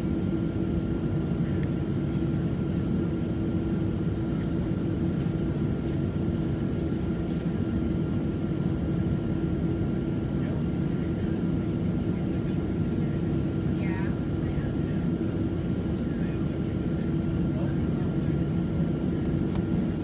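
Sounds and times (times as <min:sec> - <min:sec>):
jet engine cabin hum: 0:00.0 - 0:20.0.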